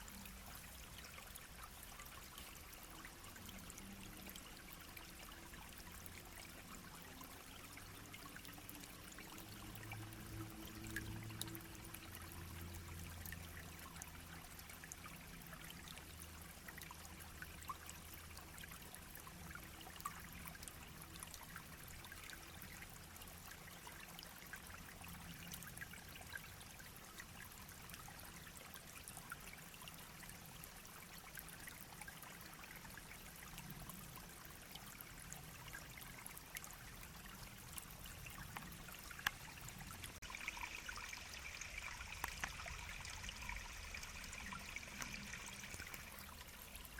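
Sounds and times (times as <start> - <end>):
brook babbling over stones: 0.0 - 46.9.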